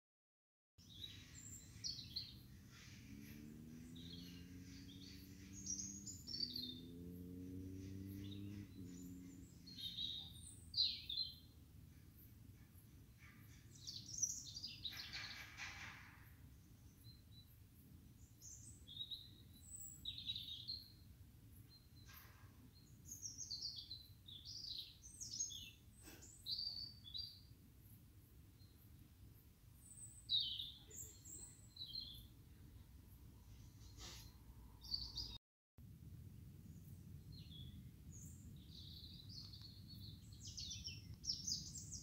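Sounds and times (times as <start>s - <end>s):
small birds chirping: 0.8s - 35.4s, 36.6s - 42.0s.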